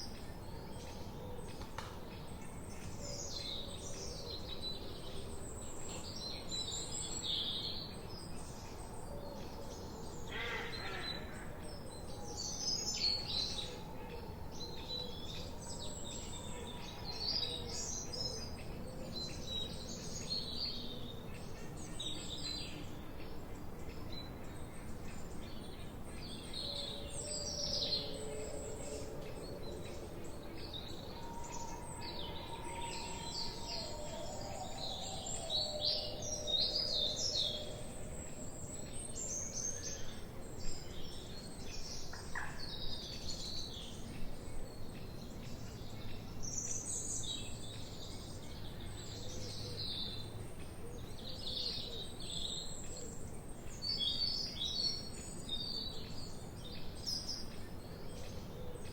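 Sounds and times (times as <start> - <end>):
forest birds chirping and singing: 0.0 - 58.9
low background noise: 0.0 - 58.9.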